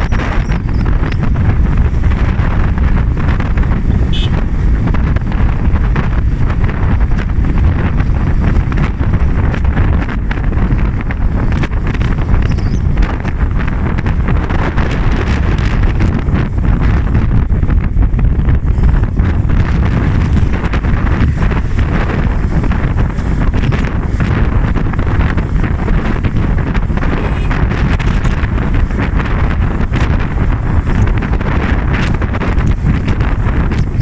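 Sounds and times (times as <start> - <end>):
moving vehicle rumble: 0.0 - 34.0
wind buffeting microphone: 0.0 - 34.0.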